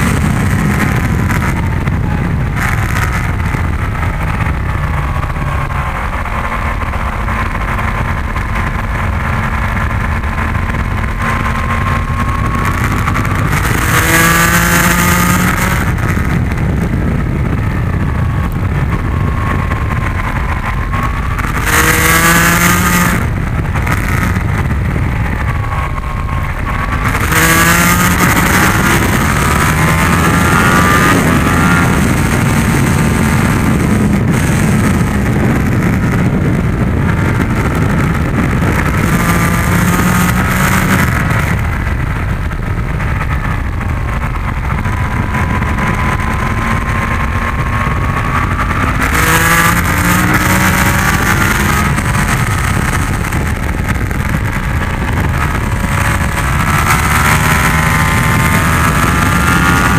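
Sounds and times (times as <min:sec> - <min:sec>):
motorcycle engine revving: 0:00.0 - 0:59.9
wind rush on microphone: 0:00.0 - 0:59.9.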